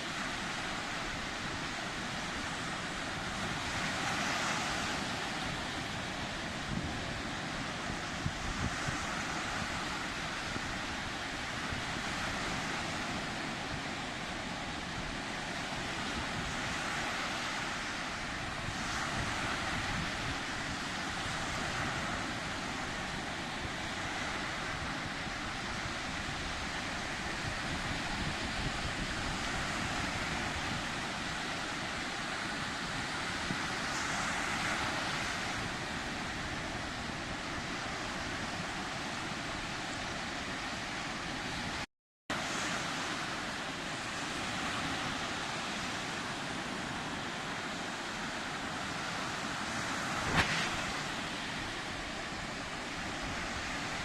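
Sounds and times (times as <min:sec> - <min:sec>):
sea waves washing in: 0:00.0 - 0:54.0
wind rumbling on microphone: 0:00.0 - 0:54.0.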